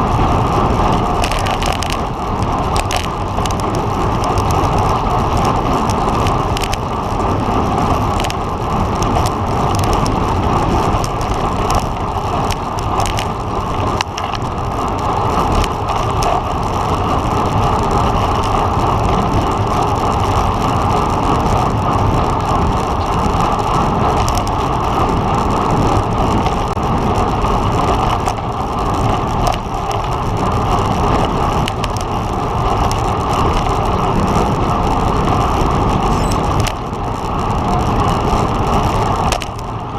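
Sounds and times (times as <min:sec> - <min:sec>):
bike clicks and rattles: 0:00.0 - 0:39.9
wind rush on microphone: 0:00.0 - 0:39.9.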